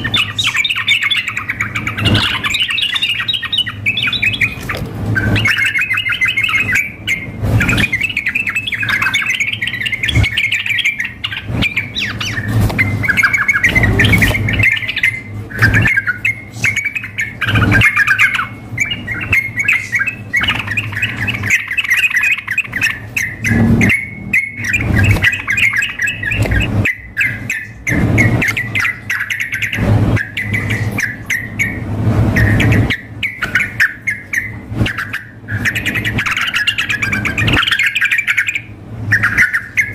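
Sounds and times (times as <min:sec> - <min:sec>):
birds chattering and singing: 0:00.0 - 0:39.9.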